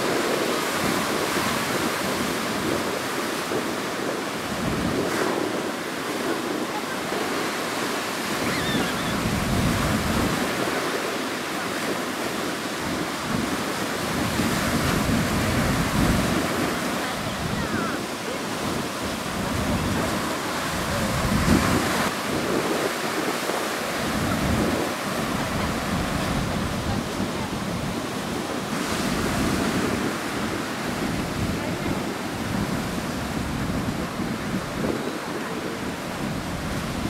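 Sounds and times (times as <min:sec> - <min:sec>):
surf washing over rocks: 0:00.0 - 0:37.0
wind buffeting microphone: 0:00.0 - 0:37.0.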